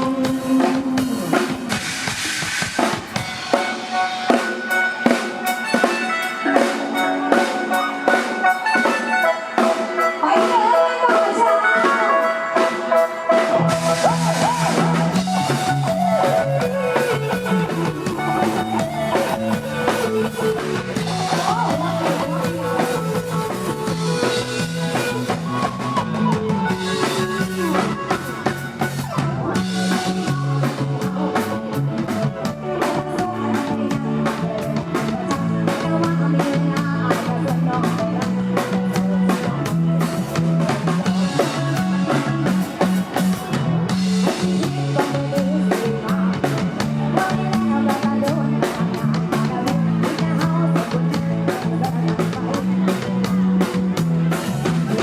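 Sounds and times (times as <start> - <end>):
live band playing pop music: 0.0 - 55.0.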